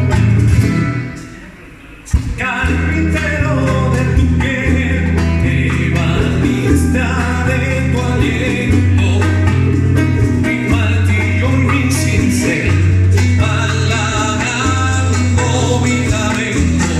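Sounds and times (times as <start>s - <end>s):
bass line: 0.0s - 16.9s
plucked guitar: 0.0s - 16.9s
steady percussion: 0.0s - 16.9s.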